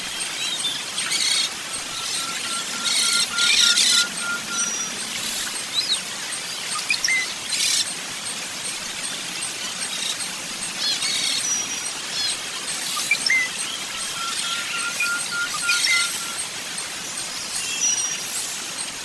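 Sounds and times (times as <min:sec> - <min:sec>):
small birds chirping: 0:00.0 - 0:18.9
faint regular high ticking: 0:00.2 - 0:19.0
buzzy bird trills: 0:00.4 - 0:08.0, 0:08.8 - 0:16.6.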